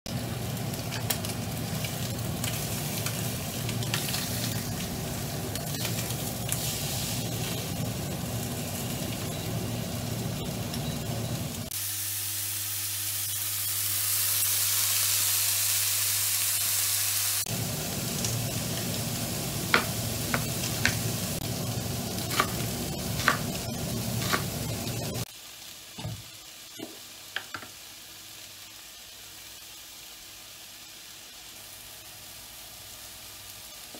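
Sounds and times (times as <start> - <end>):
meat sizzling in frying pan: 0.1 - 33.9.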